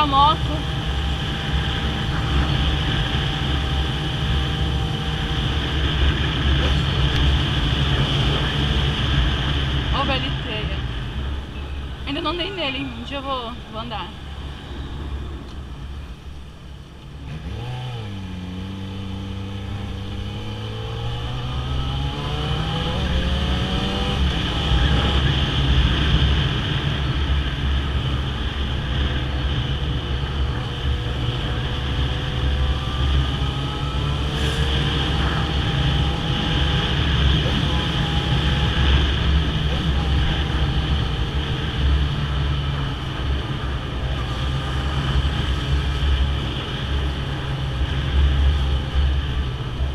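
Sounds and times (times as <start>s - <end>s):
motorcycle engine accelerating: 0.0s - 11.5s, 14.2s - 49.9s.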